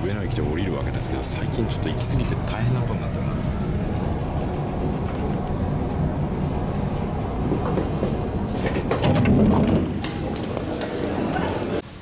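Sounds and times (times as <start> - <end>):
train running rumble: 0.0 - 11.8.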